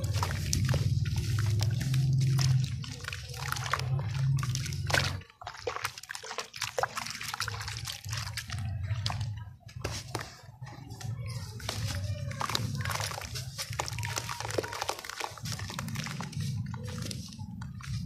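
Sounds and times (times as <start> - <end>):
wet cement crumbled in water: 0.0 - 18.0.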